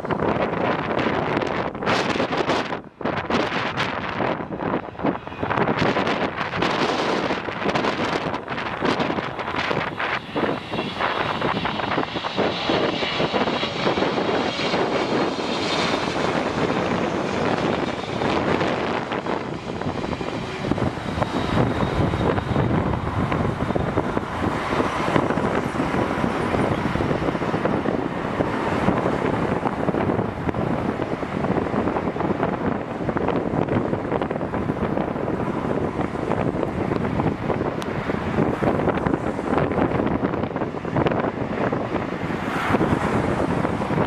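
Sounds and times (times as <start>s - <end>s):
high engine whine: 0.0s - 44.0s
jet engines roaring: 0.0s - 44.0s.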